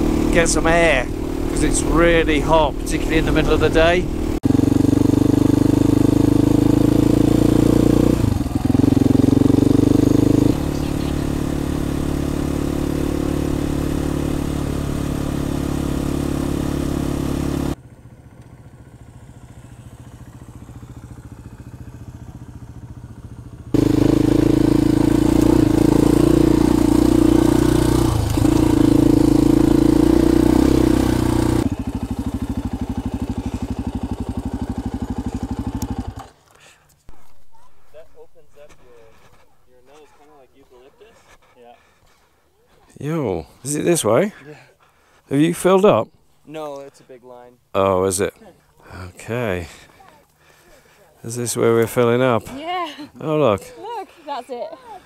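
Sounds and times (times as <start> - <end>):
dirt bike engine running: 0.0 - 45.8, 47.8 - 55.0.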